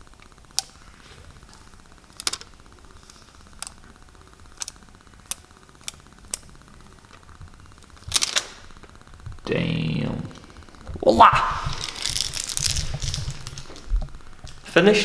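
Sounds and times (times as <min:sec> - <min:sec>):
faint steady buzz: 0:00.0 - 0:15.0.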